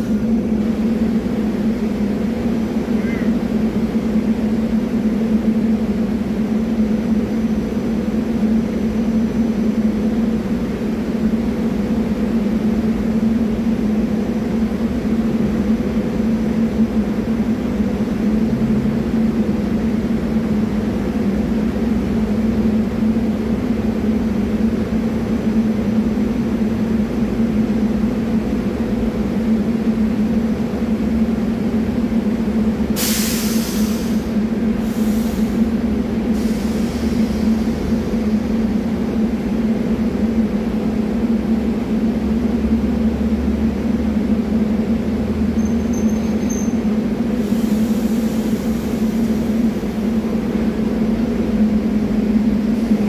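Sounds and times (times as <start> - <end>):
electric railcar humming: 0.0 - 53.0.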